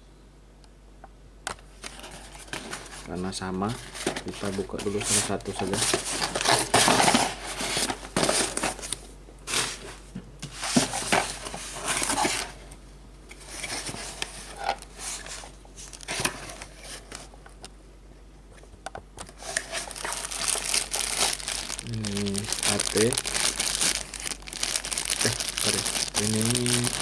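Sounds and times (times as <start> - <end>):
packaging crinkling and rustling: 1.8 - 12.7, 13.4 - 17.3, 19.2 - 27.0.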